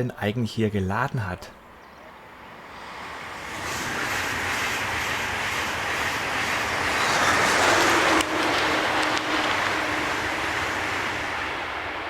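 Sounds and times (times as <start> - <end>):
freight train rolling on rails: 2.2 - 12.0.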